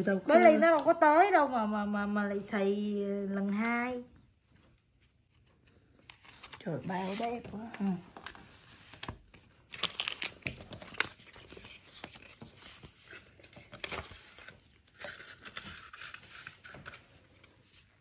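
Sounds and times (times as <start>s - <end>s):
paper rustling and crinkling: 3.5s - 18.0s.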